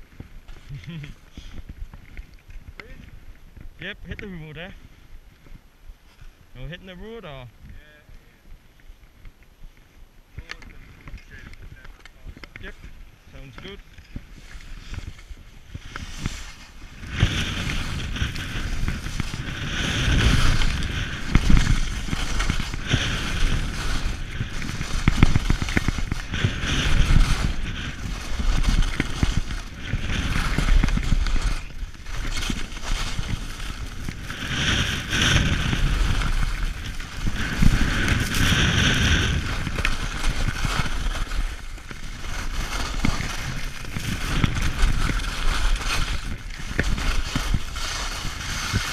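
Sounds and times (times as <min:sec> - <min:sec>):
skis scraping on hard snow: 0:00.0 - 0:04.8, 0:09.0 - 0:48.9
wind rumbling on microphone: 0:00.0 - 0:48.9.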